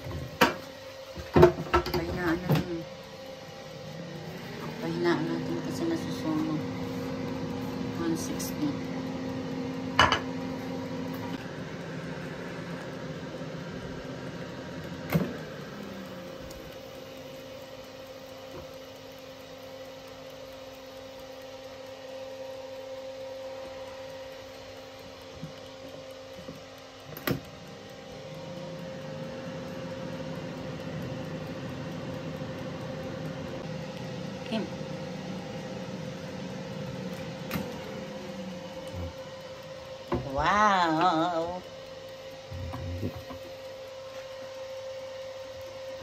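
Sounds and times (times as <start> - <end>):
air fryer humming: 0.0 - 46.0.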